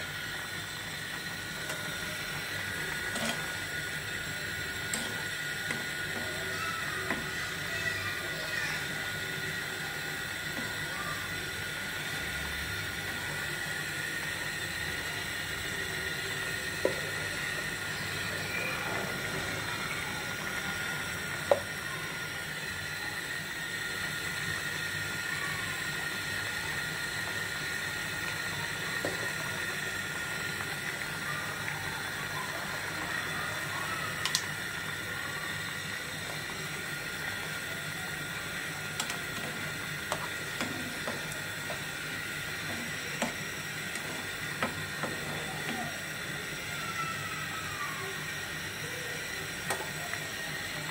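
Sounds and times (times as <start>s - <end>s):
curry simmering in a pan: 0.1s - 47.5s.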